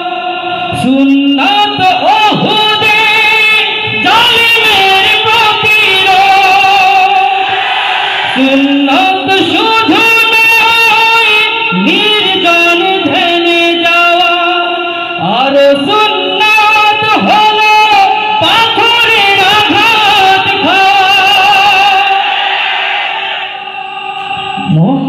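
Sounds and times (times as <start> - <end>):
man singing devotional song: 0.0 - 7.5, 8.4 - 22.2.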